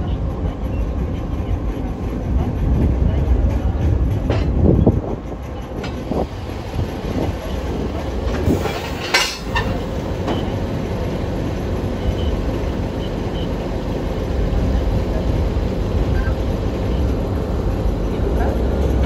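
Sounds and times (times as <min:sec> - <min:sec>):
locomotive low rumble: 0:00.0 - 0:19.0.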